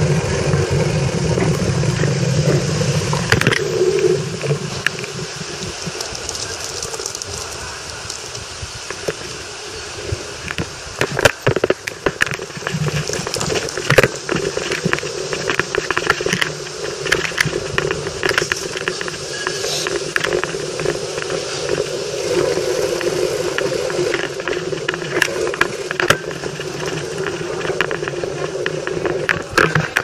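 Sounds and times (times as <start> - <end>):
street noise rush: 0.0 - 30.0.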